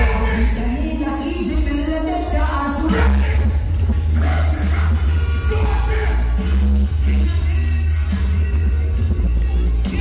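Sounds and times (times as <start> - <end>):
reggae dub music with heavy bass: 0.0 - 10.0.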